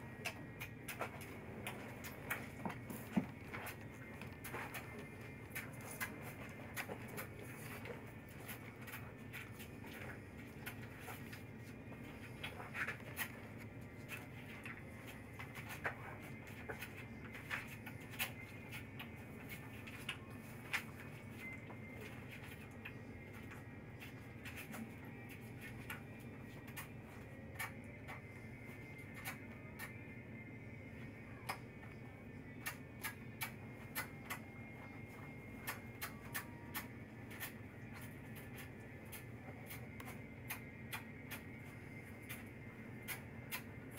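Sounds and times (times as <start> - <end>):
low room hum: 0.0 - 43.9
pups suckling clicks and smacks: 0.0 - 43.9.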